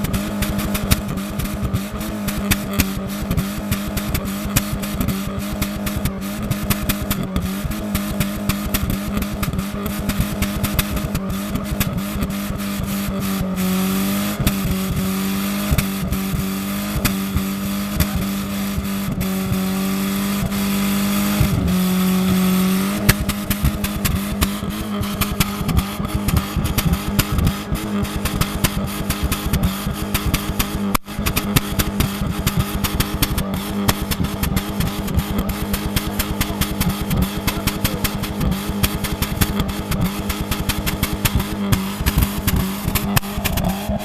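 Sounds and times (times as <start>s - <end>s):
car engine at raised revs: 0.0s - 44.0s
exhaust crackles and pops: 0.0s - 44.0s.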